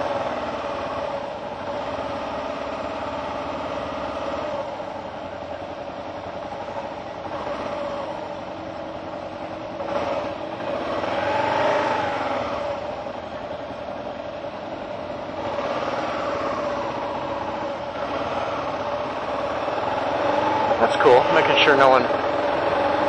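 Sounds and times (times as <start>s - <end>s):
motorcycle engines idling: 0.0s - 23.0s.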